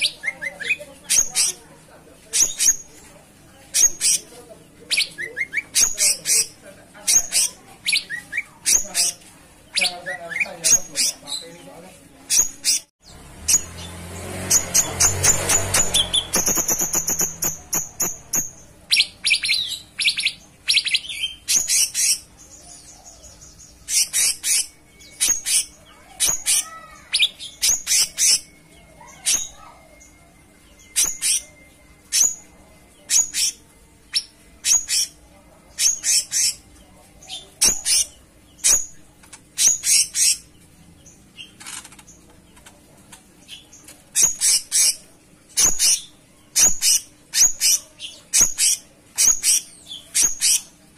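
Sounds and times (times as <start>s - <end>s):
songbird chirping: 0.0s - 50.9s.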